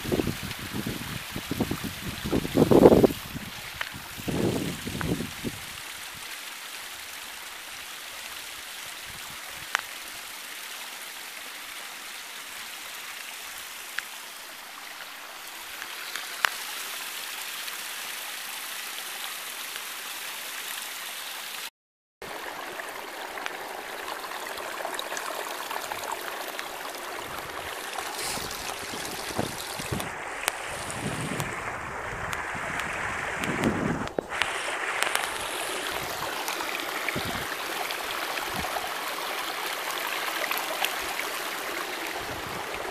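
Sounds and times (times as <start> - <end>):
stream running over rocks: 0.0 - 42.9.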